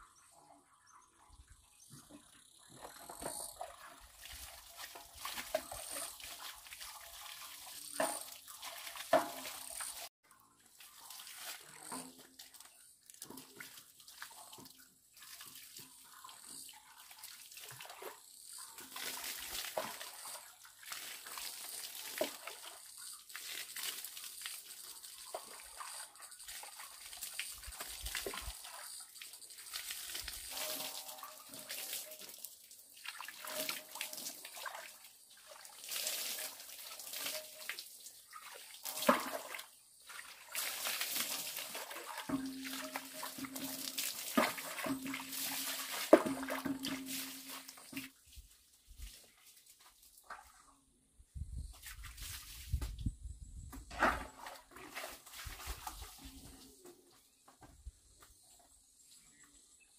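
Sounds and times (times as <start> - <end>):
water sloshing and splashing: 1.9 - 50.8, 53.8 - 57.0.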